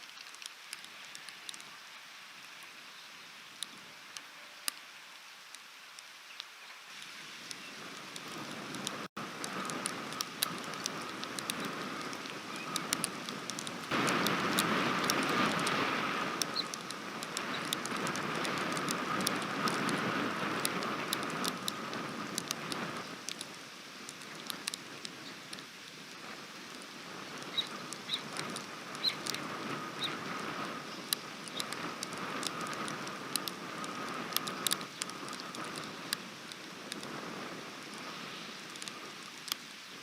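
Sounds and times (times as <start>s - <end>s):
raindrops ticking: 0.0s - 40.0s
steady rain: 0.0s - 40.0s.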